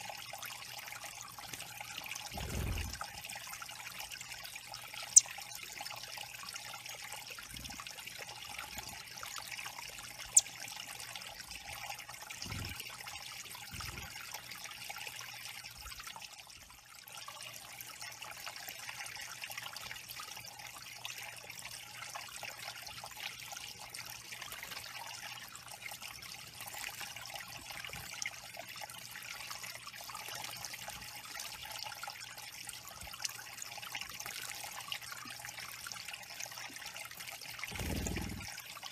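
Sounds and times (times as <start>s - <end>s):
waterfall trickling over stones: 0.0s - 38.9s.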